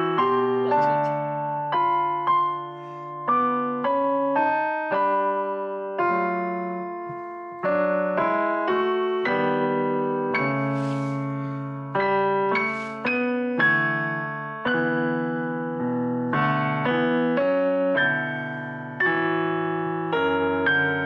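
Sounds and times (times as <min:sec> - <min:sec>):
digital piano chords: 0:00.0 - 0:21.0.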